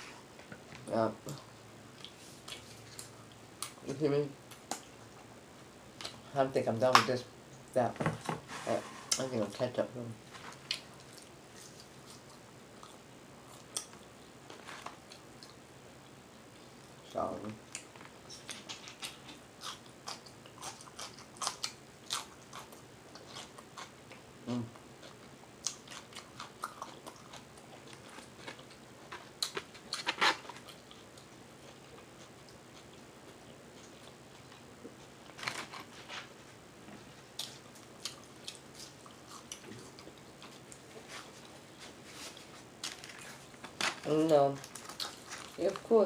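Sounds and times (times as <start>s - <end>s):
quiet chewing: 0.4s - 3.8s, 10.4s - 45.9s.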